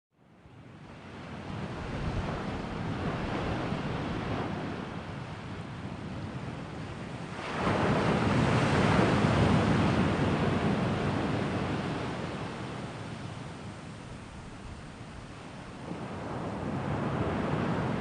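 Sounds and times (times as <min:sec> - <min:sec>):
sea waves washing on shore: 0:01.0 - 0:18.0.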